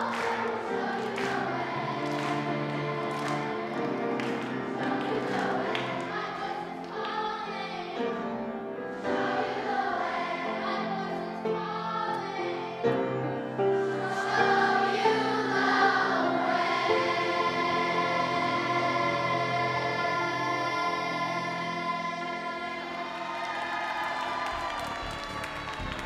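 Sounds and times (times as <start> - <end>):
choir singing: 0.0 - 26.0.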